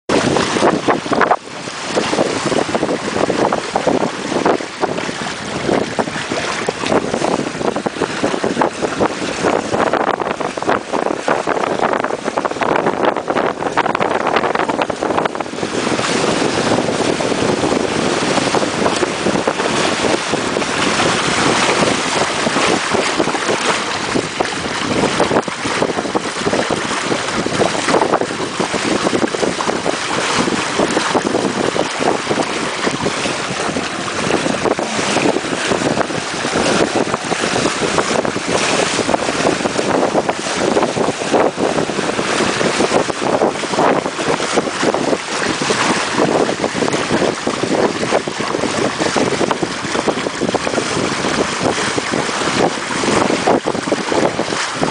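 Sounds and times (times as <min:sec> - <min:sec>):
water rushing along hulls: 0:00.0 - 0:54.9
wind buffeting microphone: 0:00.1 - 0:54.9.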